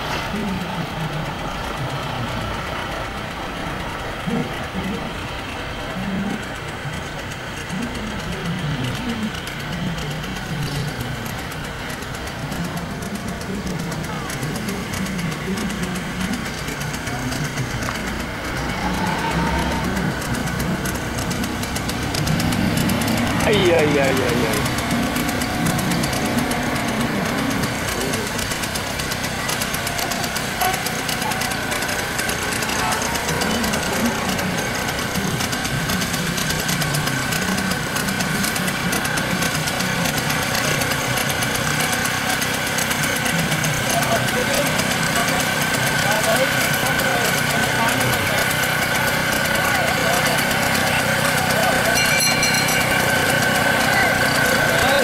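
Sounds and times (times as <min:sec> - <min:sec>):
diesel locomotive engine: 0:00.0 - 0:55.0
faint voices: 0:00.0 - 0:55.0.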